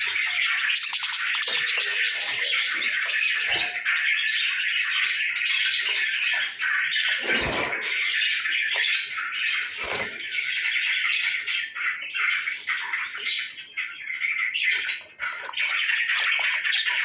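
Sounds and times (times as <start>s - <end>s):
parrots chattering and chirping: 0.0s - 17.0s.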